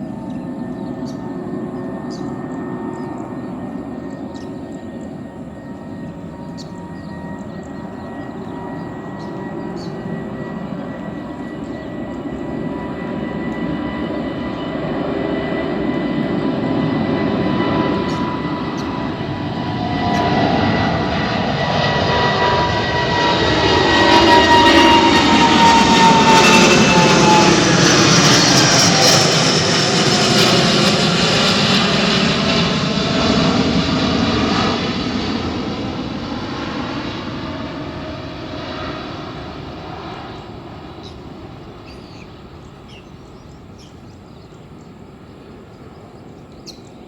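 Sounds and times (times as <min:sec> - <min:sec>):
jet engines roaring with whine: 0:00.0 - 0:47.0.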